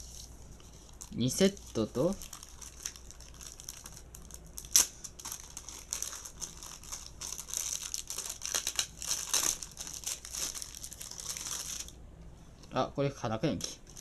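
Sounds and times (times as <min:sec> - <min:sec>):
plastic packaging crinkling: 0:00.0 - 0:12.0, 0:13.6 - 0:14.0.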